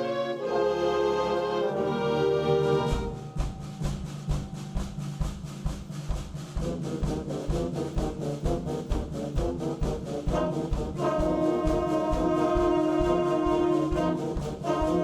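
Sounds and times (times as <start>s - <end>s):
brass chord: 0.0s - 4.2s, 6.6s - 15.0s
concert band playing: 0.0s - 15.0s
steady drum beat: 2.6s - 15.0s.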